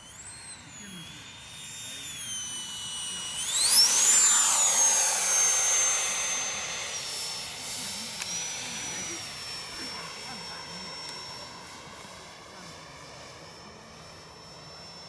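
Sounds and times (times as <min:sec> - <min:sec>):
model jet turbine whining: 0:00.0 - 0:15.0.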